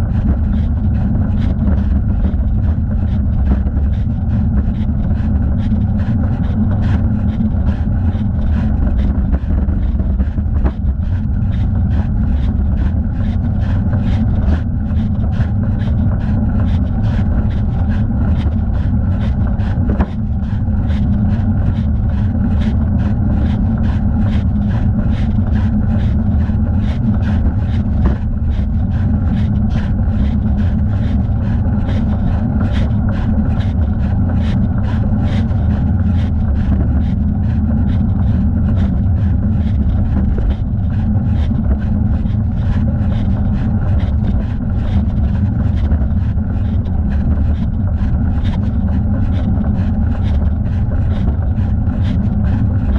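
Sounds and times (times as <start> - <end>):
wind rumble on microphone: 0.0 - 52.9.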